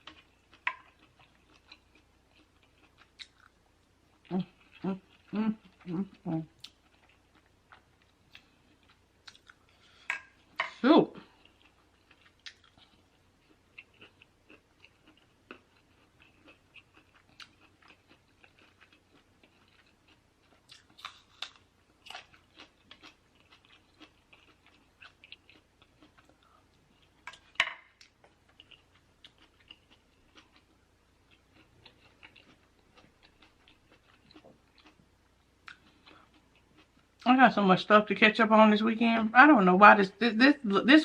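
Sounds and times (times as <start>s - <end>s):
person chewing food: 0.0s - 37.2s.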